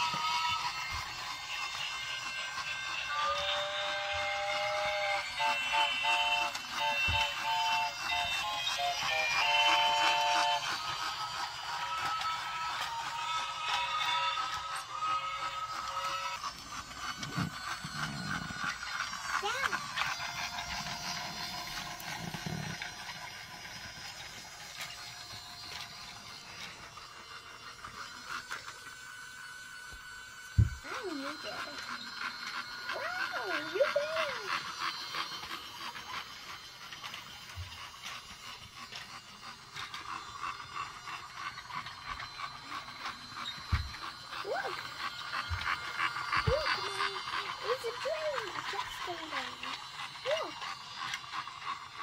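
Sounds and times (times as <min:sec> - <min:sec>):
toy train motor whirring: 0:00.0 - 0:52.0.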